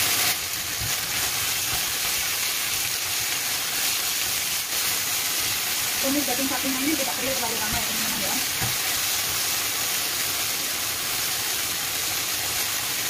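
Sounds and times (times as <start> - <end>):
meat and onion sizzling in pan: 0.0 - 13.0.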